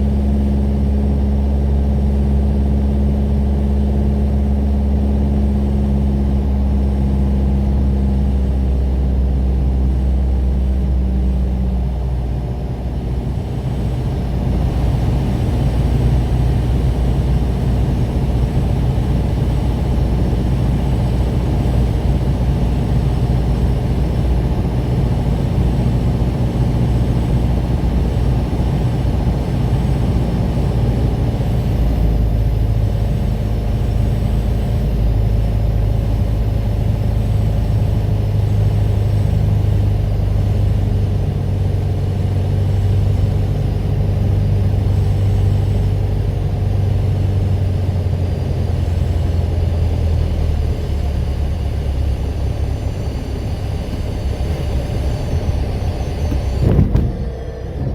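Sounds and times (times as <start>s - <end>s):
light aircraft engine droning: 0.0s - 57.9s.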